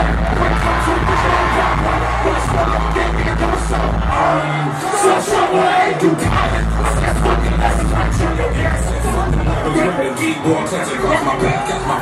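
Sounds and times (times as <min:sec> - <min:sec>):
live hip hop music over pa: 0:00.0 - 0:12.0.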